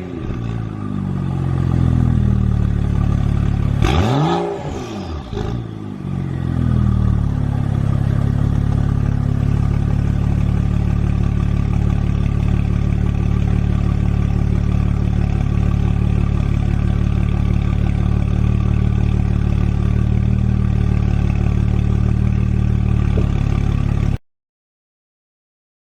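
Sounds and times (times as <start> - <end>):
engine idling: 0.0 - 4.3, 5.0 - 24.2.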